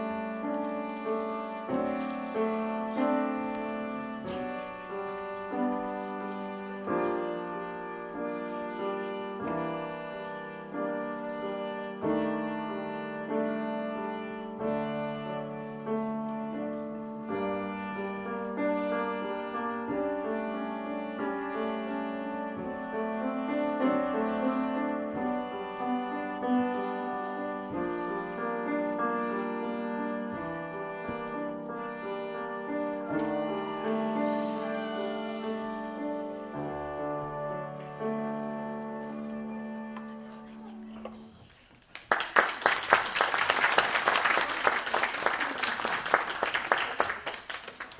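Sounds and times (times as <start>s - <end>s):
violin melody: 0.0s - 41.6s
piano accompaniment: 0.0s - 47.9s.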